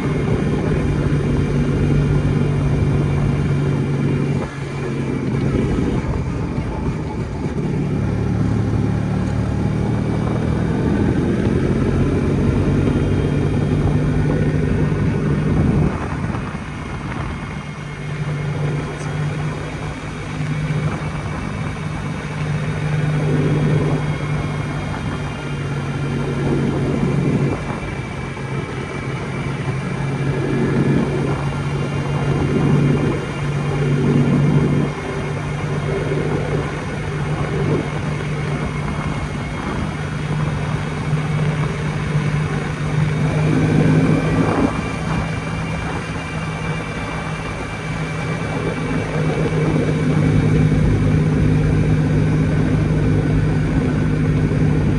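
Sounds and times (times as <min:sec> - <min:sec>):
two-stroke motorcycle engine running: 0:00.0 - 0:54.9.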